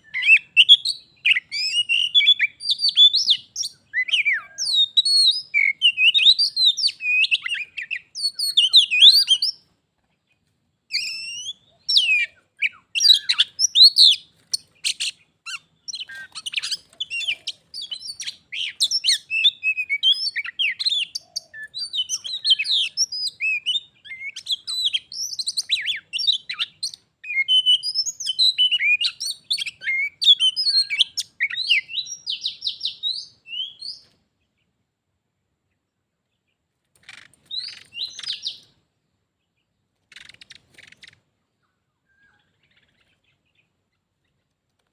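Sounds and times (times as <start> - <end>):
birds singing whistles and chatter: 0.0 - 34.7, 36.3 - 38.8, 39.4 - 44.5.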